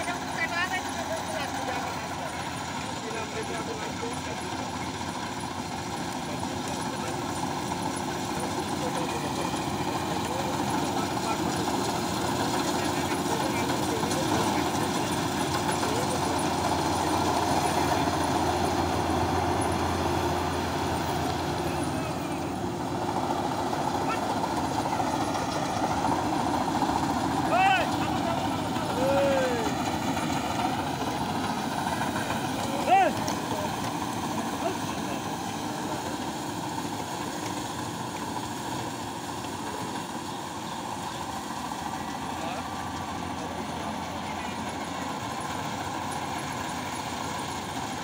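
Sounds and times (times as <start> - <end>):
combine harvester running: 0.0 - 48.0.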